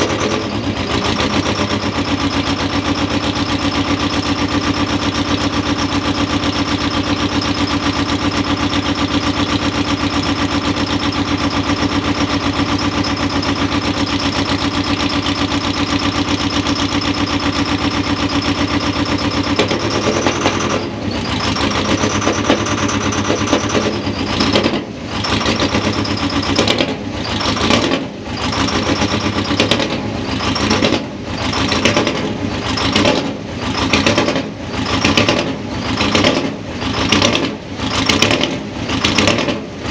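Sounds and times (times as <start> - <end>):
diesel engine running and surging: 0.0 - 39.9.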